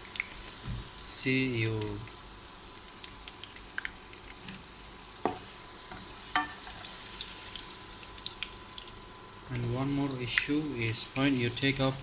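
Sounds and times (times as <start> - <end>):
sausages sizzling in oil: 0.0 - 12.0.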